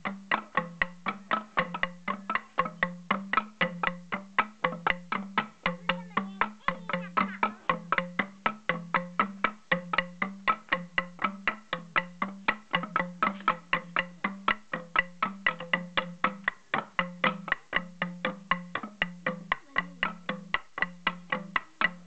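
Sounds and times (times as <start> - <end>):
bamboo tubes knocking on concrete: 0.0 - 22.0.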